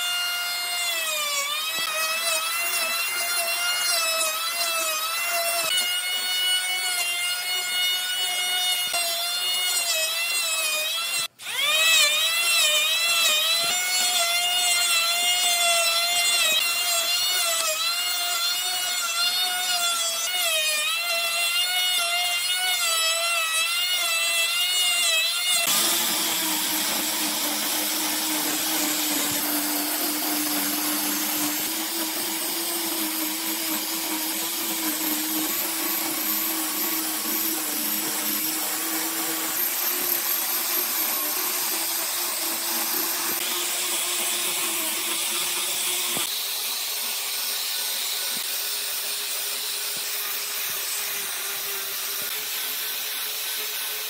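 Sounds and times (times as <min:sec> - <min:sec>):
angle grinder sanding wood: 0:00.0 - 0:54.0
electric planer whining: 0:00.0 - 0:54.0.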